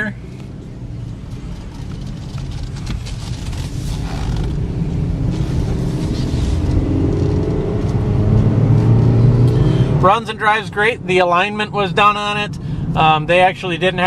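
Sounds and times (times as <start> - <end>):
car engine: 0.0 - 14.0
road noise: 0.0 - 14.0.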